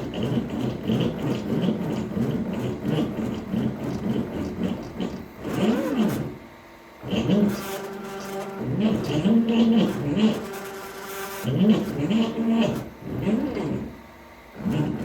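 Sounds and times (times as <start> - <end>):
machine motors whining: 0.0 - 15.0.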